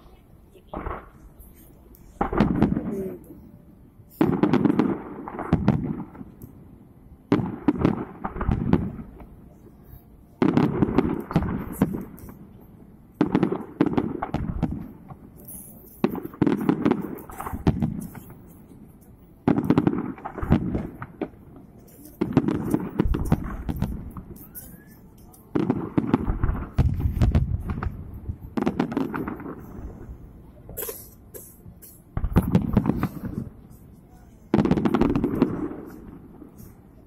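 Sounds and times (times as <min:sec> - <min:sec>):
fireworks booming and crackling: 0:00.0 - 0:09.7, 0:10.3 - 0:37.0.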